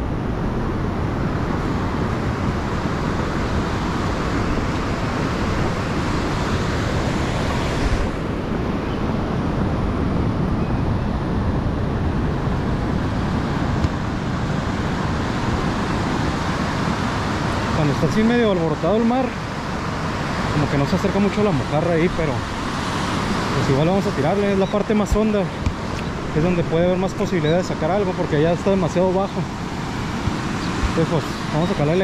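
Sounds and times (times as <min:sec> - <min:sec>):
rough sea waves breaking: 0:00.0 - 0:32.0
wind buffeting microphone: 0:00.0 - 0:32.0.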